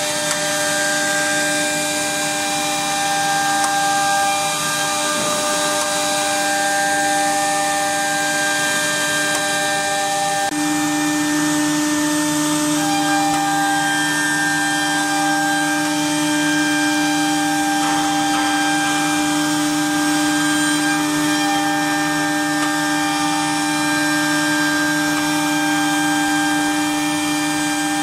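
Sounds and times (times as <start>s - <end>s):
cnc router spindle whine: 0.0s - 28.0s.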